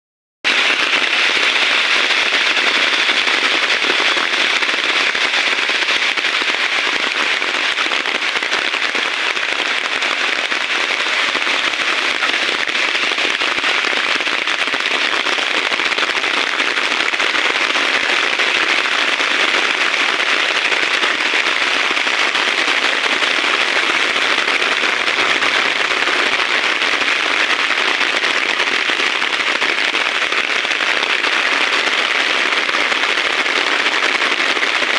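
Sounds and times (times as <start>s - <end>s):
heavy rain falling: 0.5s - 34.9s.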